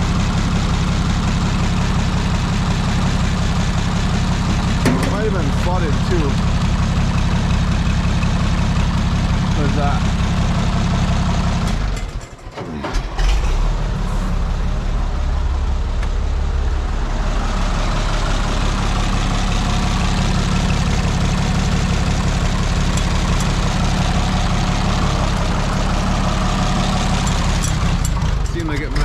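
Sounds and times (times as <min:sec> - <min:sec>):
tractor engine running rough: 0:00.0 - 0:29.0.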